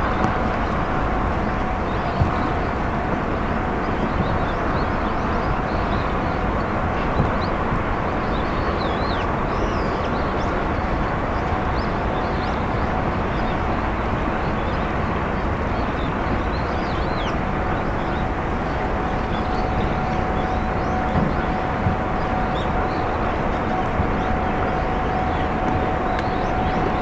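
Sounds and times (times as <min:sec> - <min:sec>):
outdoor background rumble: 0:00.0 - 0:27.0.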